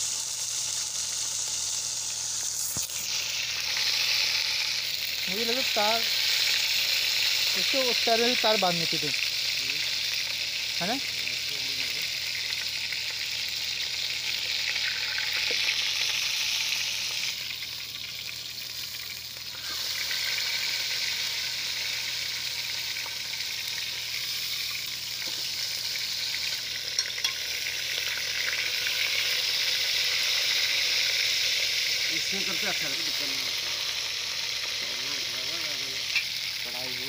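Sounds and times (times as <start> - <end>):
chicken sizzling in hot oil: 0.0 - 37.0.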